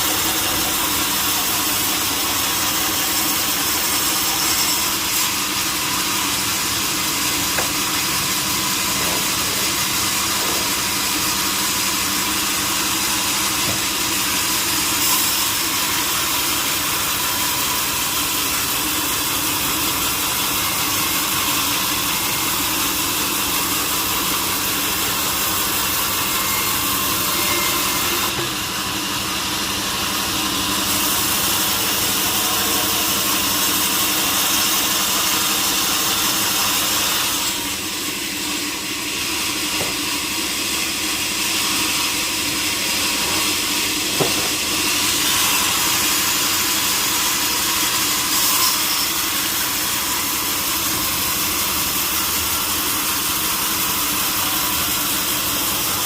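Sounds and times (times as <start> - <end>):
sawmill saw cutting: 0.0 - 56.0.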